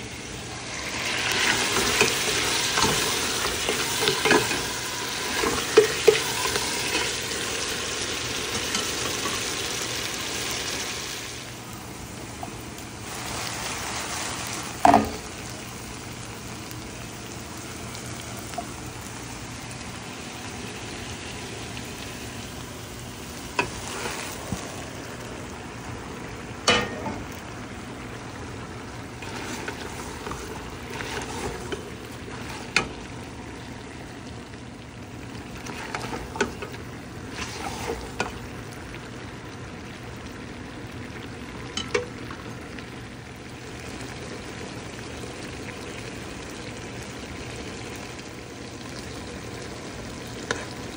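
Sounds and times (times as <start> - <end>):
chicken sizzling in oil: 0.0 - 50.9.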